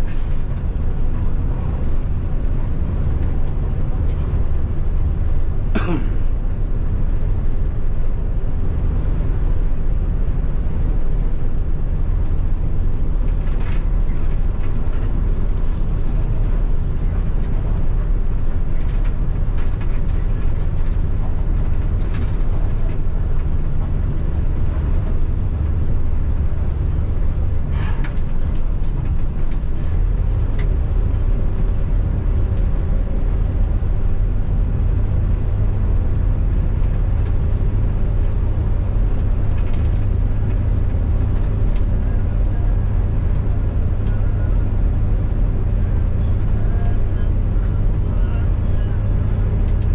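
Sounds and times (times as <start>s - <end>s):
diesel engine drone: 0.0s - 49.9s.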